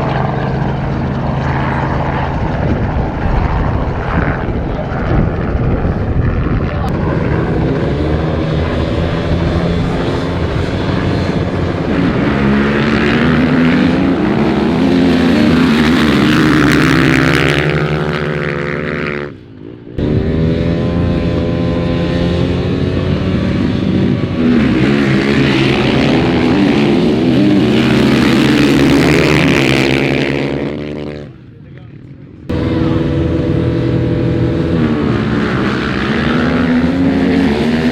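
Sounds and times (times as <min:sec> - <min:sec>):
vehicle engine accelerating: 0:00.0 - 0:31.4, 0:32.4 - 0:37.9.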